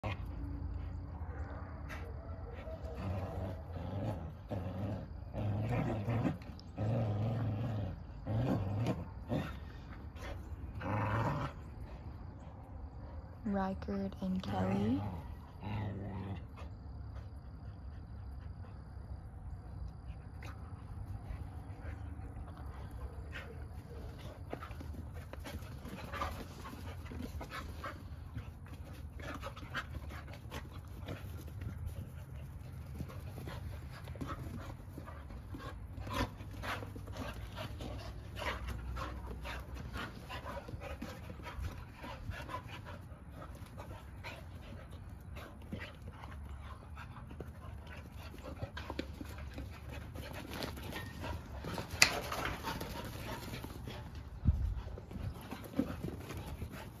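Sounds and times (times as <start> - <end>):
dogs panting: 0.0 - 13.4, 14.0 - 57.0
dogs play-fighting: 0.0 - 13.4, 14.4 - 57.0.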